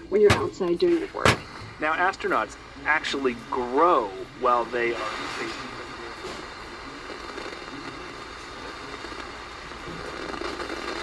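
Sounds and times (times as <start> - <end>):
radio static hiss and crackle: 0.0 - 11.0.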